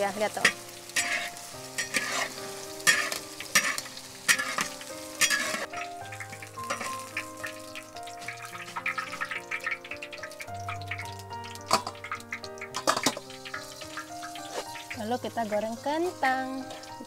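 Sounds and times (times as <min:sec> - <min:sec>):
tofu sizzling in hot oil: 0:00.0 - 0:17.0.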